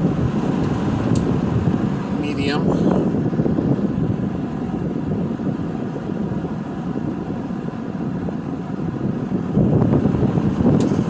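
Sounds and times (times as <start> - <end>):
box fan blowing air: 0.0 - 11.0.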